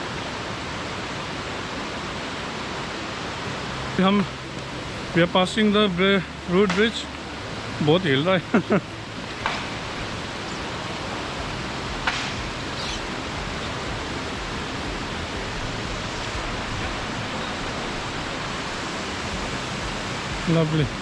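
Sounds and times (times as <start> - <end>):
flowing water: 0.0 - 21.0.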